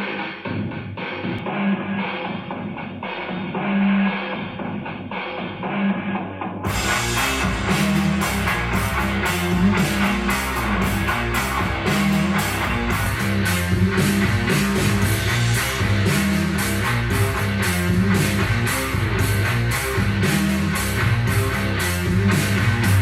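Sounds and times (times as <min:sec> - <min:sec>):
rock music with drums and guitar: 0:00.0 - 0:23.0.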